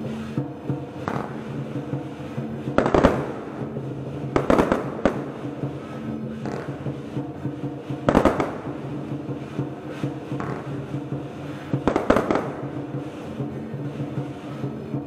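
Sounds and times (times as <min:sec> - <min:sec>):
fireworks bangs: 0:00.0 - 0:15.0
steady sustained music: 0:00.0 - 0:15.0.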